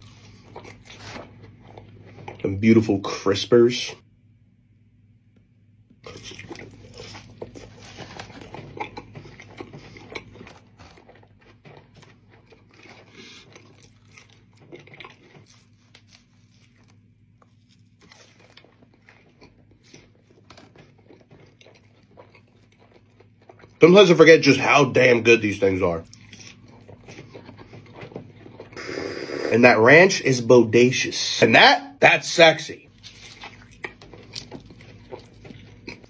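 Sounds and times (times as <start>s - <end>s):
person chewing crispy chicken: 0.0s - 2.6s, 6.0s - 30.4s, 32.9s - 36.0s.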